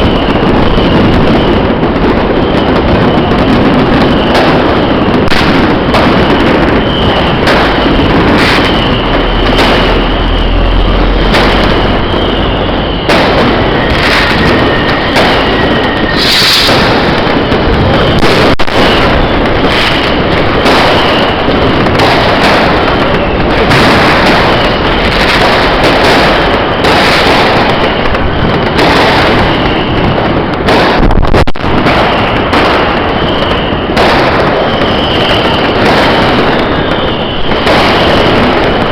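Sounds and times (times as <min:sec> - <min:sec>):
firework whistle: 0:00.0 - 0:38.9
fireworks bangs and crackles: 0:00.0 - 0:38.9.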